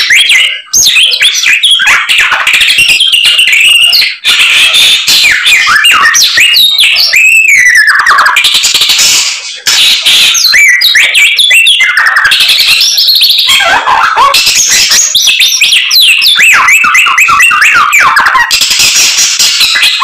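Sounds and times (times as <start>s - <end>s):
songbird singing rapid phrases: 0.0s - 20.0s.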